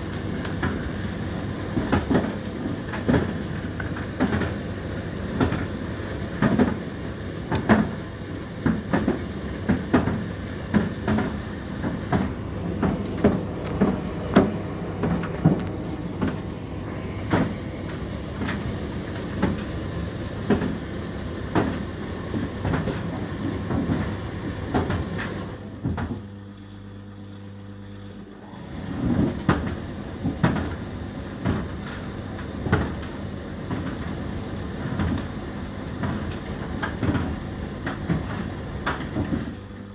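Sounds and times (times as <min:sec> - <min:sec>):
tumble dryer motor hum: 0:00.0 - 0:39.9.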